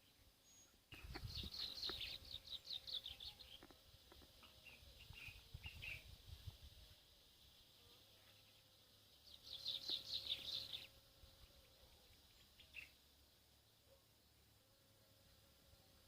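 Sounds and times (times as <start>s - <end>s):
songbird chirping: 0.0s - 6.2s, 7.4s - 15.5s.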